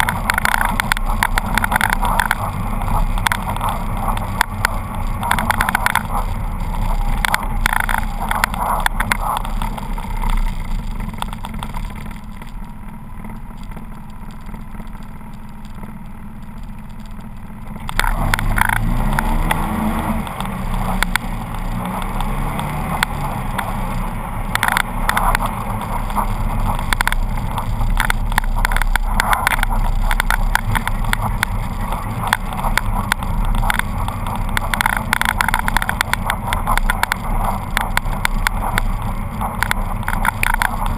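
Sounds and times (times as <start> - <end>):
vehicle engine revving: 0.0 - 12.4, 17.6 - 40.9.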